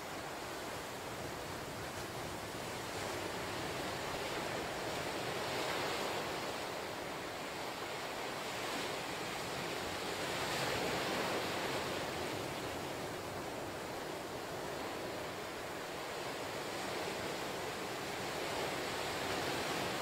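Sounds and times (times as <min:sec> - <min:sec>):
ocean surf breaking on rocks: 0:00.8 - 0:20.0.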